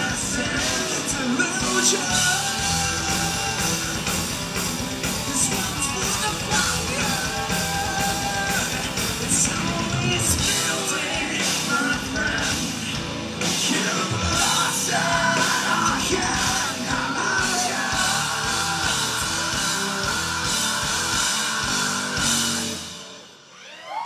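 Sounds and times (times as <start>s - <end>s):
live rock band playing: 0.0s - 23.5s
singer's voice: 0.0s - 24.0s.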